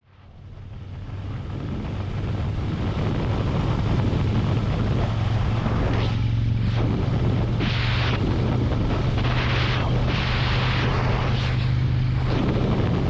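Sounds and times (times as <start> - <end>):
motorcycle engine running: 0.2 - 13.0
wind on microphone: 1.0 - 13.0.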